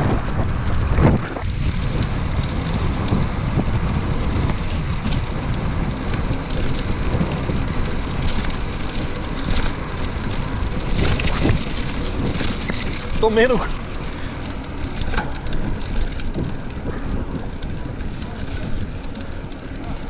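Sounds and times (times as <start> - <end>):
rain falling: 0.0 - 20.0
wind buffeting microphone: 0.0 - 20.0.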